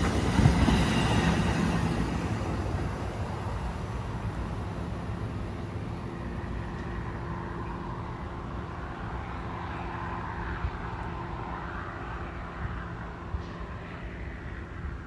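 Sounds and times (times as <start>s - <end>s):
diesel locomotive drone: 0.0s - 15.0s
train wheels rumbling on rails: 0.0s - 15.0s.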